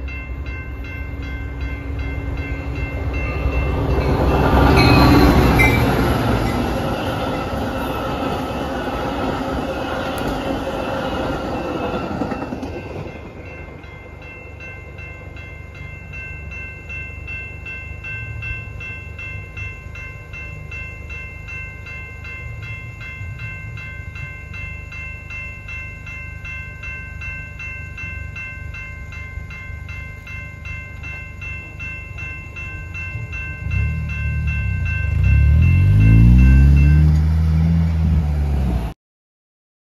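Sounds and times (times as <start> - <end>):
crossing warning bell ringing: 0.0 - 38.7
train wheel and rail noise: 0.0 - 38.9.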